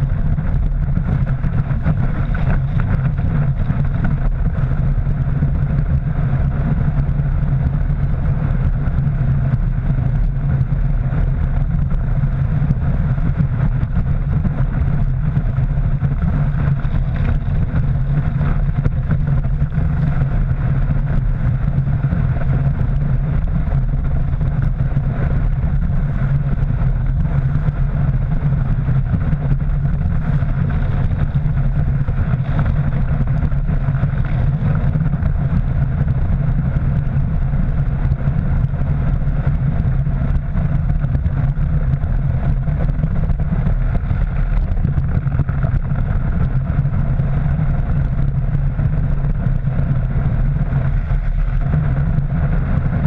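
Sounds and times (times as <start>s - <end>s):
low drone: 0.0s - 53.0s
muffled rush of spray and wind: 0.0s - 53.0s.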